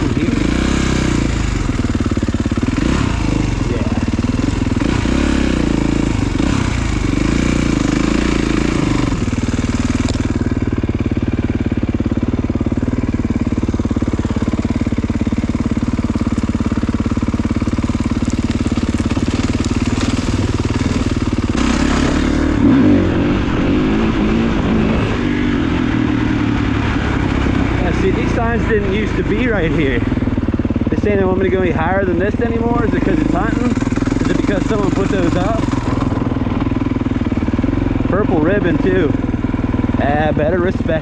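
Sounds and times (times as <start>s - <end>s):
dirt bike engine running: 0.0s - 41.0s.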